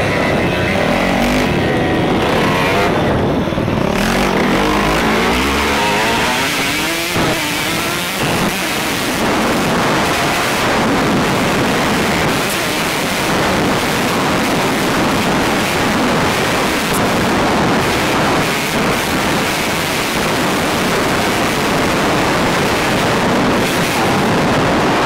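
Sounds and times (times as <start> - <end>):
motorbike engine revving: 0.0 - 25.0
wind noise: 0.0 - 25.0.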